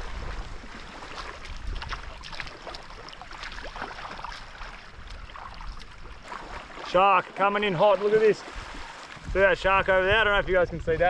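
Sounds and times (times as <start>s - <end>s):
sea water lapping and splashing: 0.0s - 11.0s.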